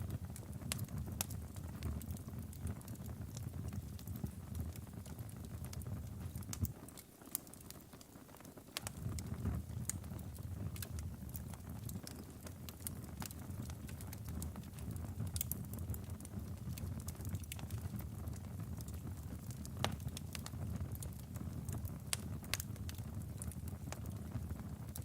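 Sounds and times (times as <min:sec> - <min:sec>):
wood crackling and popping: 0:00.0 - 0:25.0.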